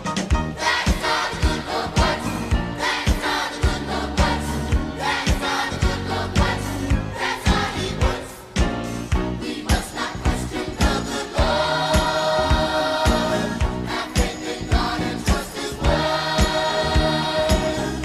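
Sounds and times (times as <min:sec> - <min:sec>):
voices singing over a beat: 0:00.6 - 0:18.0.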